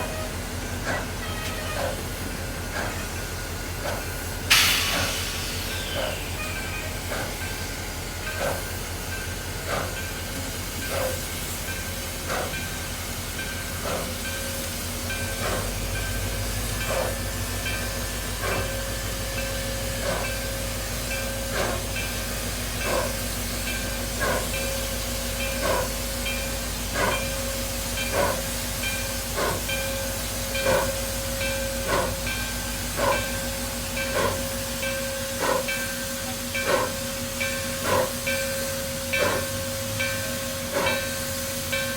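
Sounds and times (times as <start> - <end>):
steam hissing: 0.0 - 41.9
steam locomotive exhaust chuffs: 0.0 - 41.9.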